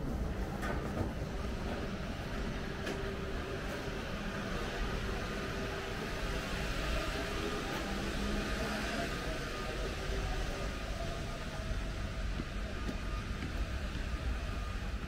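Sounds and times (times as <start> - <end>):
standing train humming: 0.0 - 15.0.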